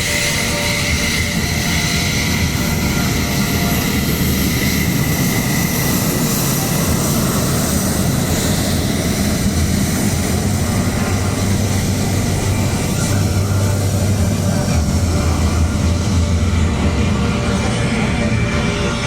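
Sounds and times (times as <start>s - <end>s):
high jet whine: 0.0s - 19.0s
jet engines running: 0.0s - 19.0s.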